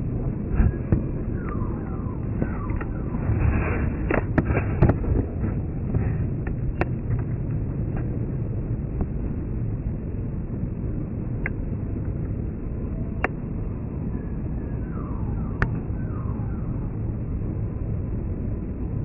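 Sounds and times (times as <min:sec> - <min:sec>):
jet aircraft rumble: 0:00.0 - 0:19.0.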